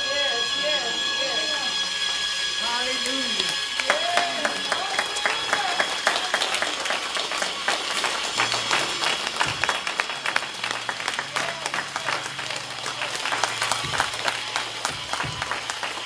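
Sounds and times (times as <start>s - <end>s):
congregation applauding: 0.0s - 16.0s.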